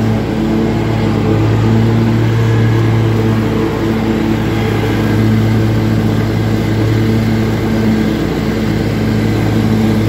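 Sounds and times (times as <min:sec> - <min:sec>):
lawn mower engine droning: 0:00.0 - 0:10.0
mower blades cutting grass: 0:00.0 - 0:10.0.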